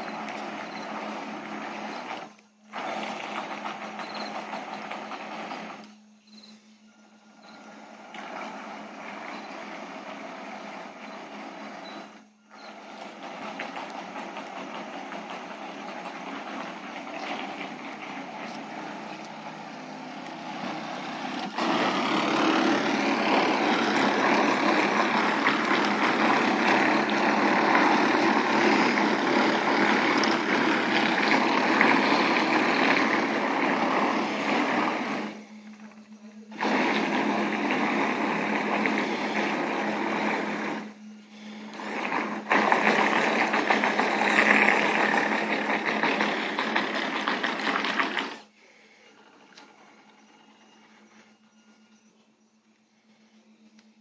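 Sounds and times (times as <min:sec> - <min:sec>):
model boat propellers churning: 0:00.0 - 0:06.1, 0:07.2 - 0:51.1.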